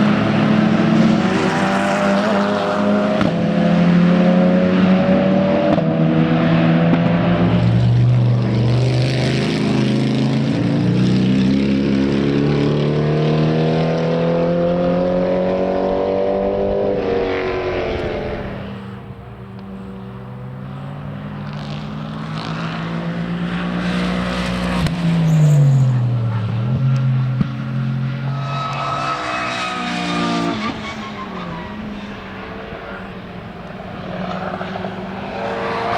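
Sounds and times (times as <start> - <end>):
racing car accelerating: 0.0 - 35.9
racing car passing by: 0.0 - 35.9.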